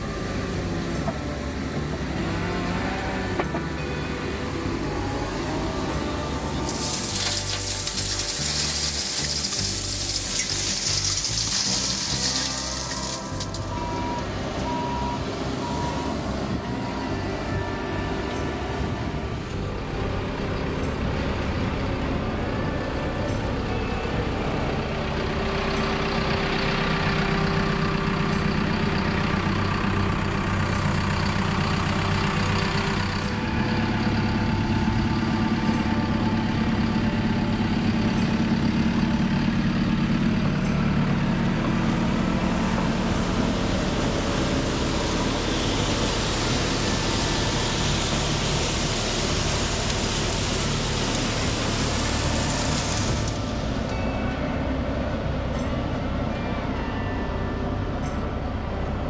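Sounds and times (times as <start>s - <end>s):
heavy equipment diesel engine: 0.0s - 59.0s.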